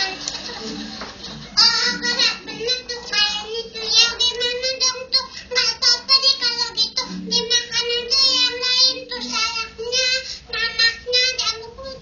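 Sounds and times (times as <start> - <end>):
steady hum: 0.0 - 12.0
woman singing in high voice: 1.6 - 12.0.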